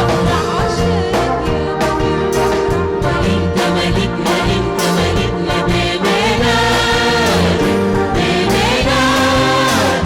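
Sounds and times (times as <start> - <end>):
live band playing worship song: 0.0 - 10.0.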